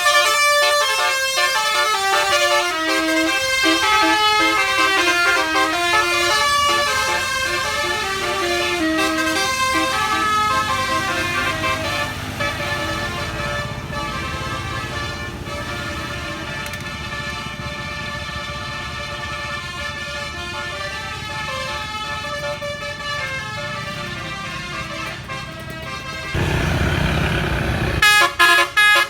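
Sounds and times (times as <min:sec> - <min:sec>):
musical air horn tune: 0:00.0 - 0:23.4, 0:24.8 - 0:29.0
bus engine rumble: 0:00.2 - 0:28.1.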